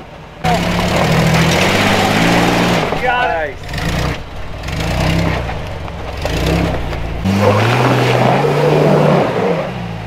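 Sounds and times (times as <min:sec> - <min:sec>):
engine revving under load: 0:00.4 - 0:10.0.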